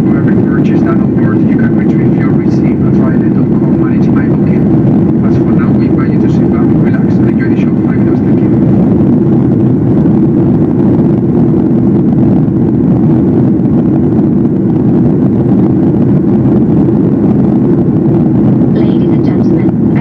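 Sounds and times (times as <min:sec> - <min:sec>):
jet engines droning: 0:00.0 - 0:20.0.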